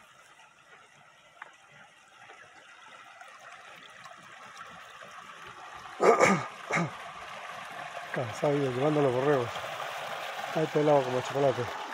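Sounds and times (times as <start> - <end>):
water trickling in ditch: 0.0 - 11.9.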